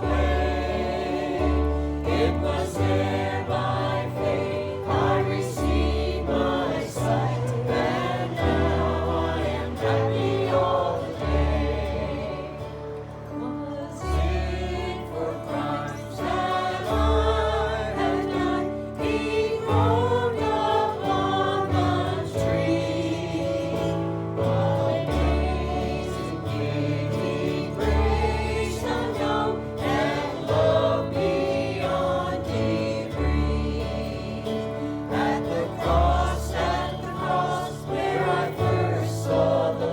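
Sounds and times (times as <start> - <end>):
group singing gospel song: 0.0 - 39.9.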